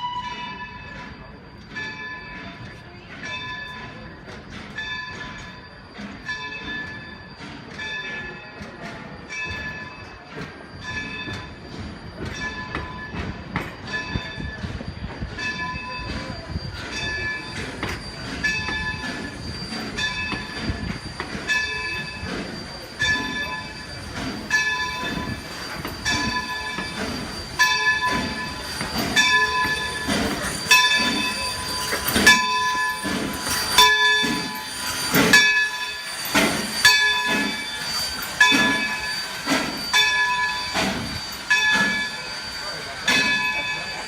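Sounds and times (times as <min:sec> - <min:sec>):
train low rhythmic pulsing: 0:00.0 - 0:44.0
ringing tone: 0:04.8 - 0:44.0.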